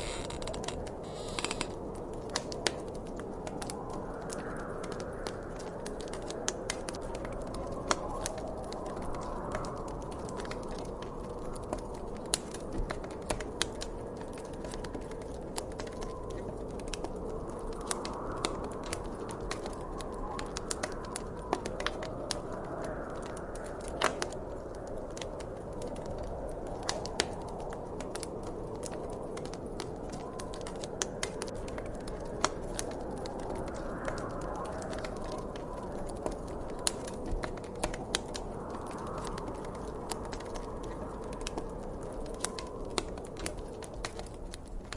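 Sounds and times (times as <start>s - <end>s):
gentle wind: 0.0s - 44.9s
wood fire crackling and popping: 0.0s - 44.9s.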